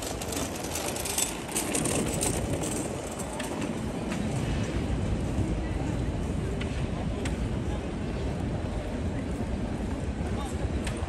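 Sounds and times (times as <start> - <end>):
traffic noise: 0.0 - 11.0
voices of passers-by: 0.0 - 11.0.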